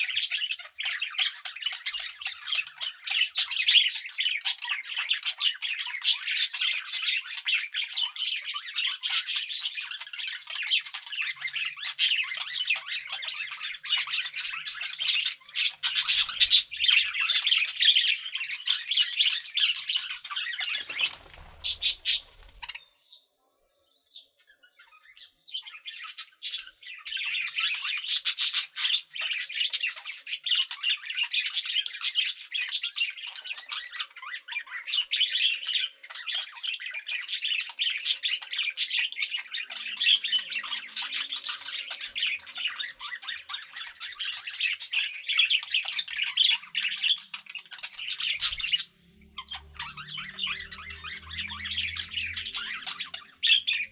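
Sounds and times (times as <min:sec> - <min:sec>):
budgerigars chattering and chirping: 0:00.0 - 0:23.0, 0:24.5 - 0:53.9.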